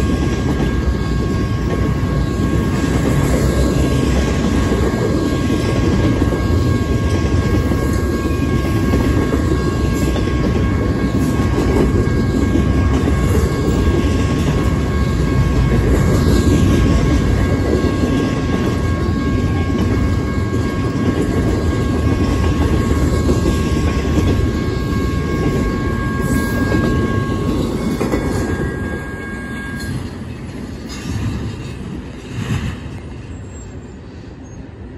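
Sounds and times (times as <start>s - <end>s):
high ringing tones: 0.0s - 30.9s
freight cars rumbling on rails: 0.0s - 34.9s.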